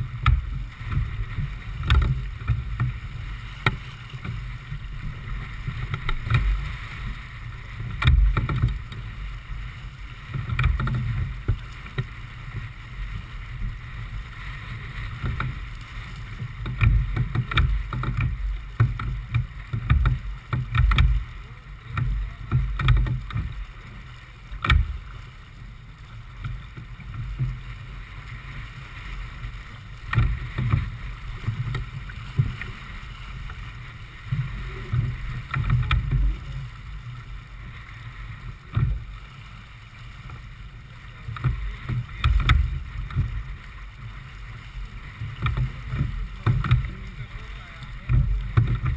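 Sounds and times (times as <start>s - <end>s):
water rushing along hull: 0.0s - 48.9s
wind rumble on microphone: 0.0s - 48.9s.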